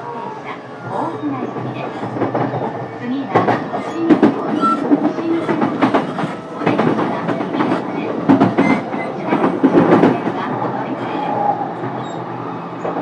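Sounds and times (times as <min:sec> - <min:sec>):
train wheels rumbling on rail: 0:00.0 - 0:13.0
wheels clacking over rail joints: 0:00.9 - 0:12.2.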